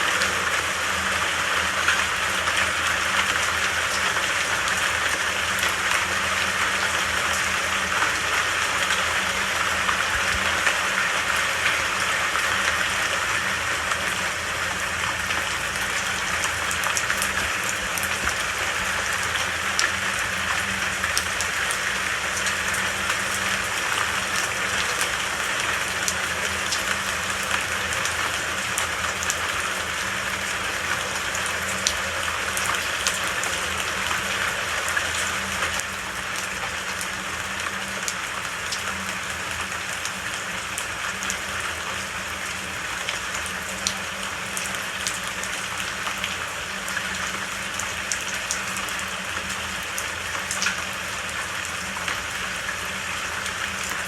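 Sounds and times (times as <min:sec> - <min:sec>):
steady rain falling: 0:00.0 - 0:54.0
raindrops ticking: 0:00.1 - 0:54.0.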